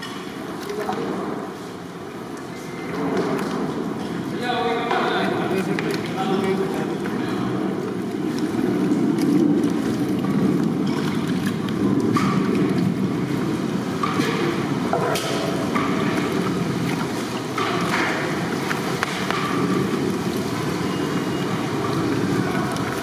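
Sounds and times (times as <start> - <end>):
hands mixing wet chicken: 0.2 - 23.0.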